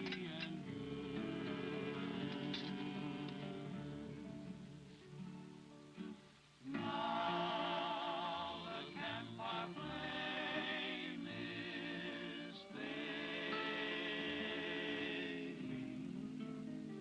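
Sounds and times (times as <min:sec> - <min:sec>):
vocal group singing in harmony: 0:00.0 - 0:04.8, 0:06.6 - 0:17.0.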